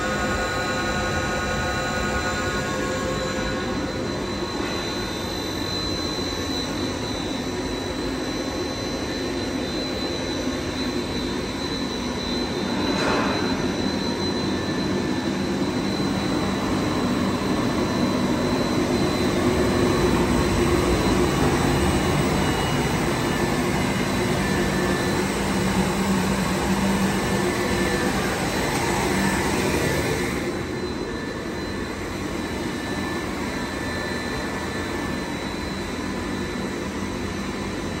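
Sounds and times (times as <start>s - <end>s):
high-pitched whine: 0.0s - 38.0s.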